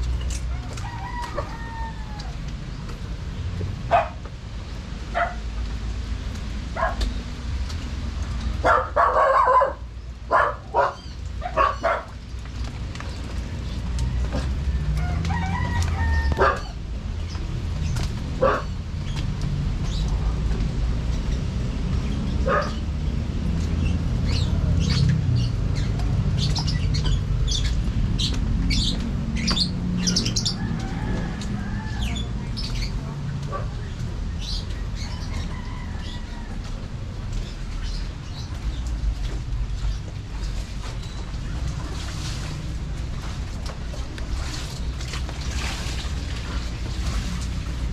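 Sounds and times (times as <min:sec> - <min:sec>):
steady low rumble: 0:00.0 - 0:09.2, 0:09.8 - 0:47.9.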